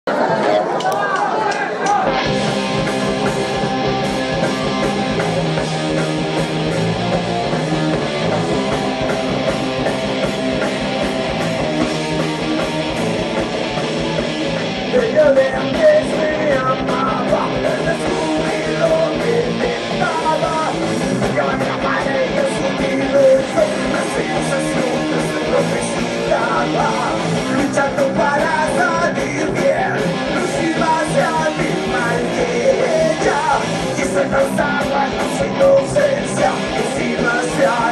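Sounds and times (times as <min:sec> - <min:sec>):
rock band playing live: 0:00.5 - 0:37.9.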